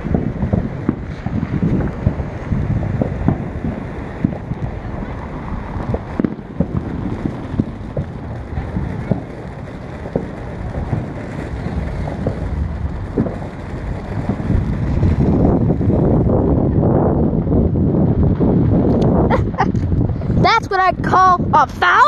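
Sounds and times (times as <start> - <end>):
pops and crackles: 0.0 - 16.5, 18.2 - 21.9
firework spark spray rushing: 0.0 - 20.6.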